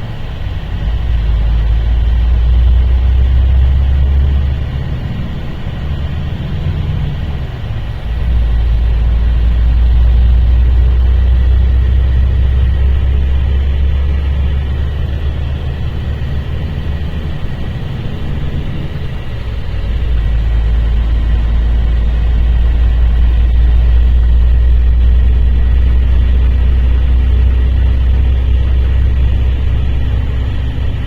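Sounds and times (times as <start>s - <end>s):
coach diesel engine droning: 0.0s - 31.0s.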